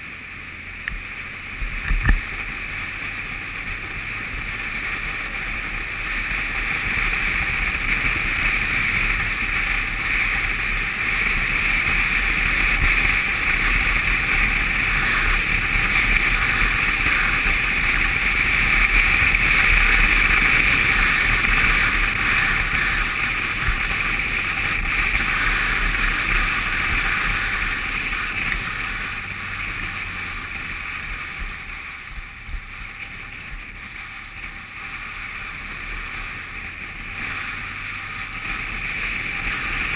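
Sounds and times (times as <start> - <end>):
motorcycle engine and tyre noise: 0.0 - 39.9
wind rushing over microphone: 0.7 - 39.9.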